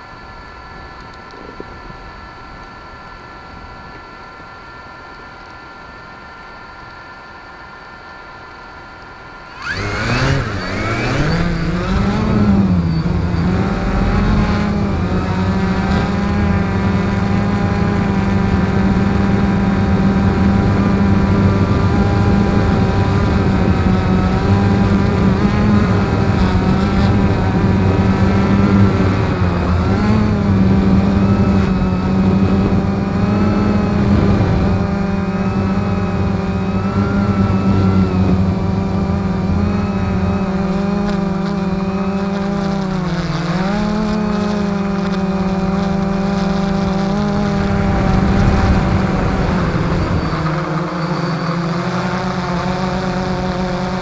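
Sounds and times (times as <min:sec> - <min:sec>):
drone propellers buzzing whine: 0:00.0 - 0:54.0.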